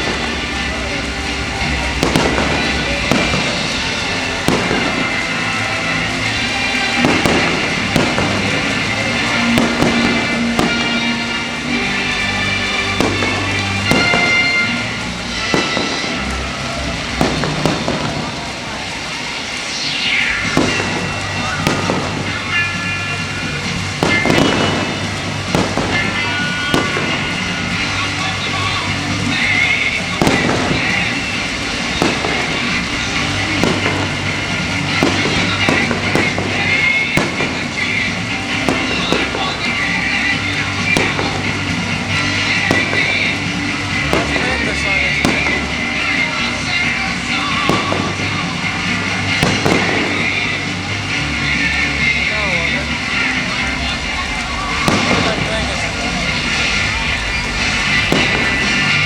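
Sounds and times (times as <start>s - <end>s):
fireworks bangs: 0.0s - 59.0s
music: 0.0s - 59.0s.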